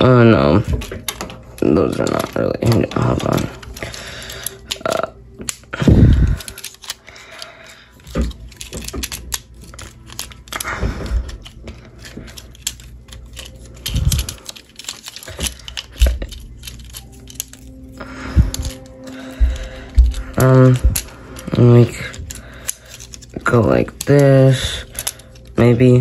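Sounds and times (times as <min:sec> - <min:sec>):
plastic toy parts clicking: 0:00.0 - 0:26.0.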